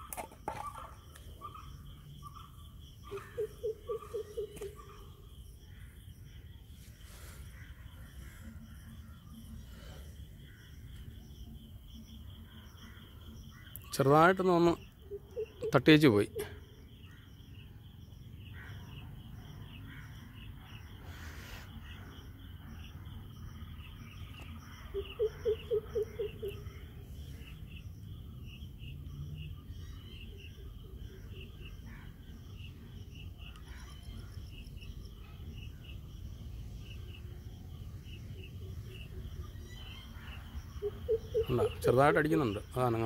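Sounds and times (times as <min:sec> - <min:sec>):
insects chirping chorus: 0:00.0 - 0:43.0.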